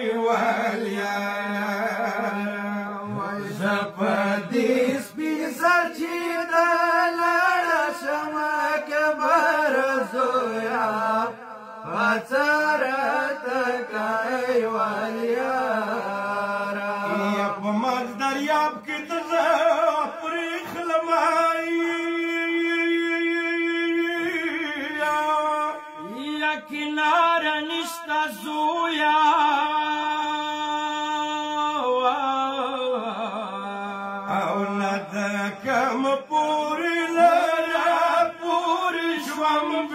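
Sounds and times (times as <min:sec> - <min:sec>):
men chanting a lament: 0:00.0 - 0:39.9.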